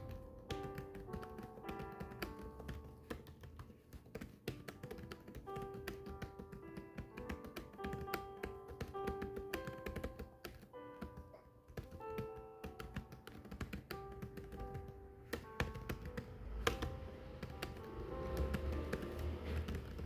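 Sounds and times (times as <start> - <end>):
background music of held notes: 0.0 - 20.0
keyboard keys typing: 0.0 - 20.0.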